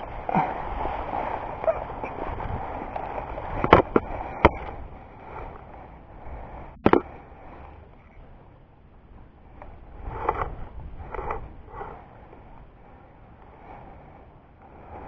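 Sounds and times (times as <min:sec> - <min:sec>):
steady rustling: 0:00.0 - 0:15.0.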